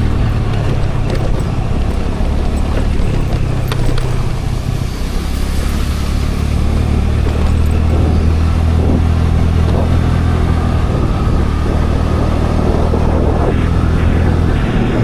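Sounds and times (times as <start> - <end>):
scooter engine humming: 0.0 - 15.0
wind and road noise: 0.0 - 15.0.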